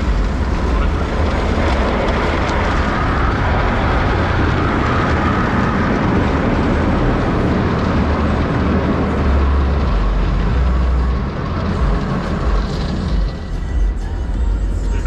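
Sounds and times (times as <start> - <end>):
automatic car wash rushing: 0.0 - 15.0
low rumble: 0.0 - 15.0.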